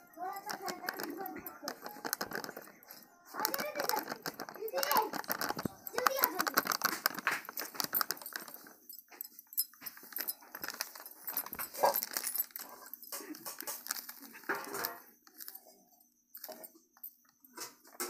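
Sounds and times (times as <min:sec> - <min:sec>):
plastic packets rustling: 0:00.0 - 0:17.4.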